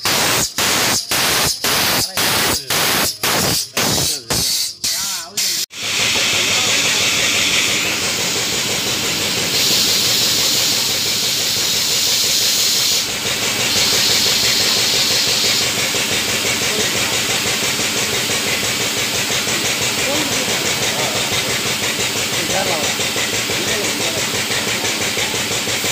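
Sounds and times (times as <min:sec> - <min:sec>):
machine running: 0:00.0 - 0:25.9
tyre machine hissing: 0:00.0 - 0:25.9.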